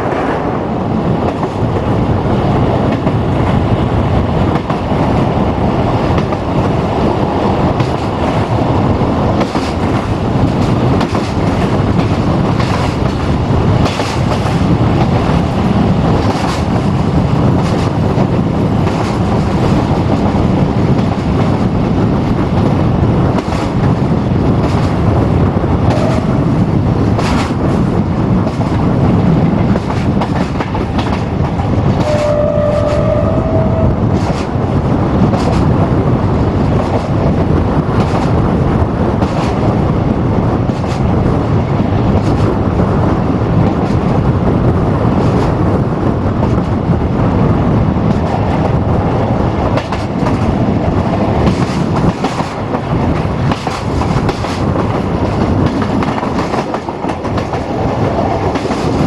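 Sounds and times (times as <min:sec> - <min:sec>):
train wheels and engine rumbling: 0:00.0 - 0:59.0.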